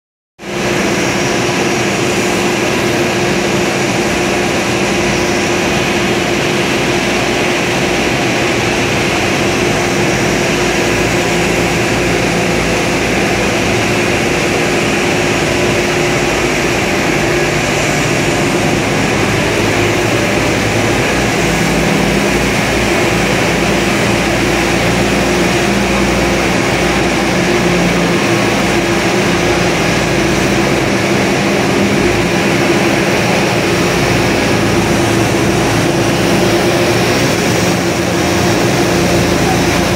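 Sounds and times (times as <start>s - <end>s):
furnace burners roaring: 0.4s - 39.9s.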